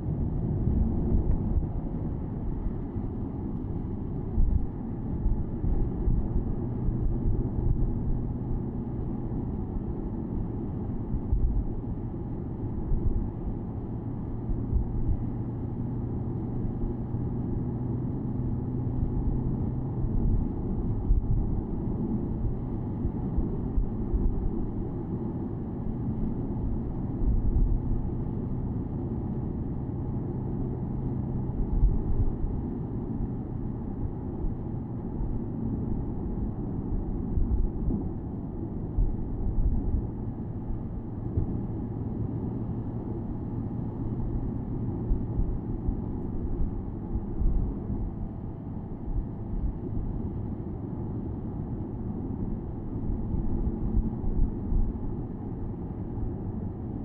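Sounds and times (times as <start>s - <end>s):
road and wind rumble: 0.0s - 57.0s.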